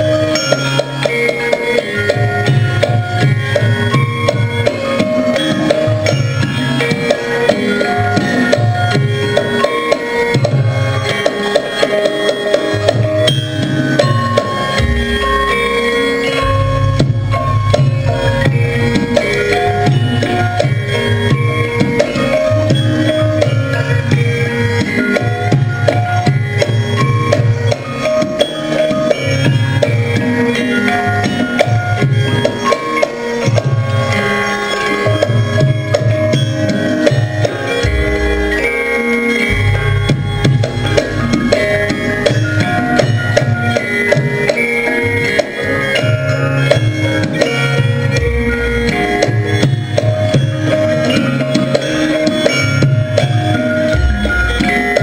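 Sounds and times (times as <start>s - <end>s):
hand drum strokes: 0.0s - 55.0s
metallophones playing: 0.0s - 55.0s.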